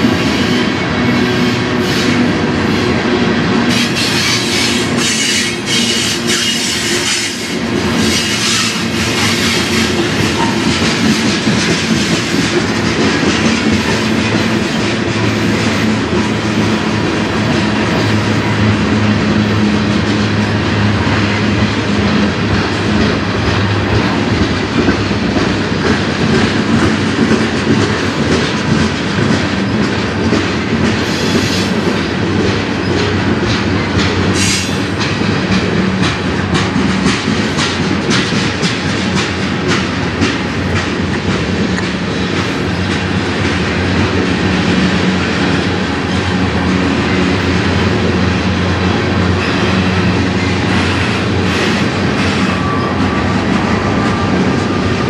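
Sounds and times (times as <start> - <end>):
clickety-clack over rail joints: 0.0 - 55.0
train wheels rumbling on rail: 0.0 - 55.0.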